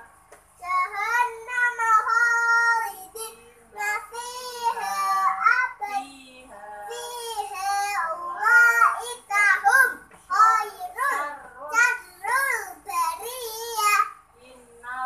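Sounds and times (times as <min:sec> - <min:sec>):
girl singing in chanted style: 0:00.6 - 0:14.1.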